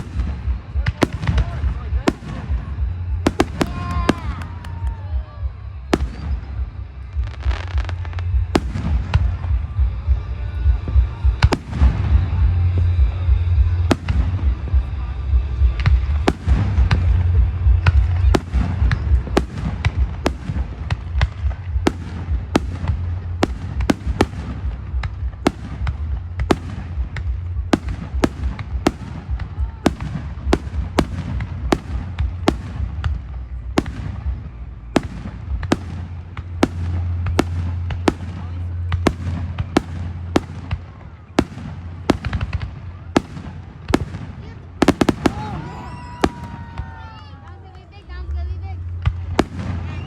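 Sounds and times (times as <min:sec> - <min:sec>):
fireworks bangs: 0:00.0 - 0:05.2, 0:05.9 - 0:50.0
low rumble of explosions: 0:00.0 - 0:50.0.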